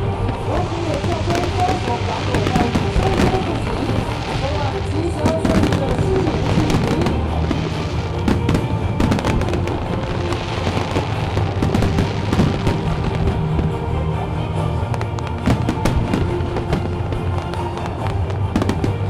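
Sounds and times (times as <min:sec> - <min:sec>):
fireworks bursting and crackling: 0:00.0 - 0:19.0
music playing: 0:00.0 - 0:19.0.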